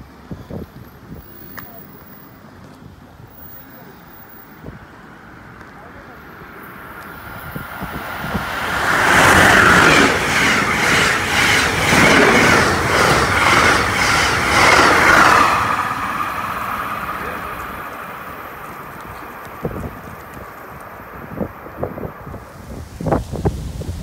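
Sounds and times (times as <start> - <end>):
train passing at speed: 3.2 - 24.0.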